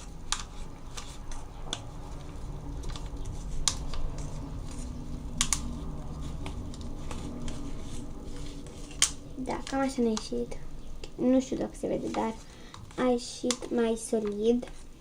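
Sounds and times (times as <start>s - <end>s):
slime being stirred: 0.0s - 15.0s.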